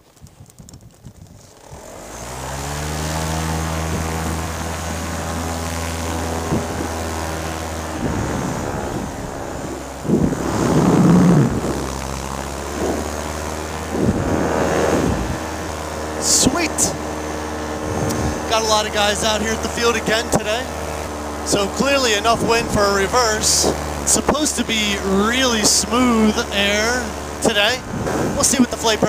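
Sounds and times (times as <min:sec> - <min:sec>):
paramotor engine and propeller: 0:00.0 - 0:29.0
loud rushing noise: 0:02.0 - 0:25.0, 0:25.6 - 0:29.0.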